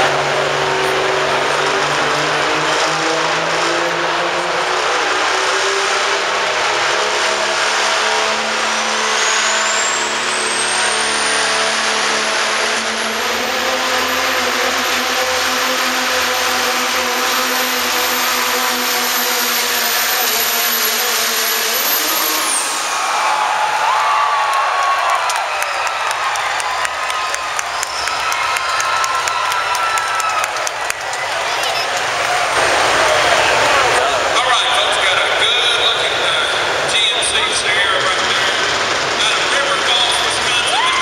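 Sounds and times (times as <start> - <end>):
diesel truck engine at high revs: 0.0 - 41.0
turbocharger whistle: 0.0 - 41.0.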